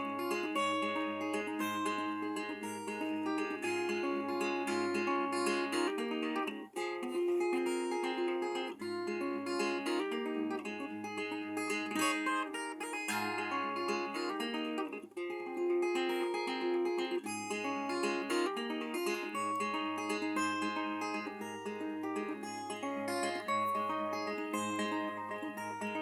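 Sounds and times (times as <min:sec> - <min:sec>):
acoustic guitar folk playing: 0:00.0 - 0:26.0.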